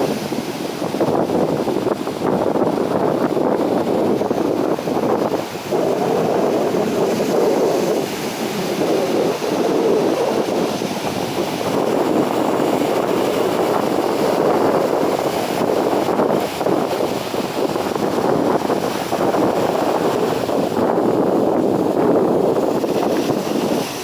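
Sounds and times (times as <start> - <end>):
sea waves washing: 0.0 - 24.0
wind buffeting microphone: 0.0 - 24.0.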